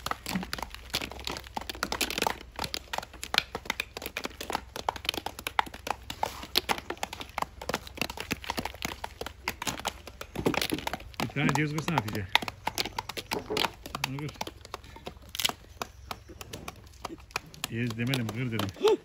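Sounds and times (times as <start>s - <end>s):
wooden sticks beating walnuts: 0.0s - 19.0s.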